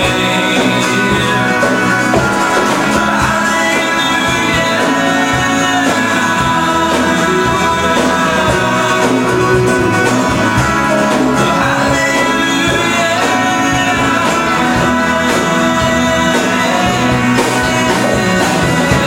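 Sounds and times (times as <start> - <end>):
person singing: 0.0 - 19.0
rock band playing: 0.0 - 19.0.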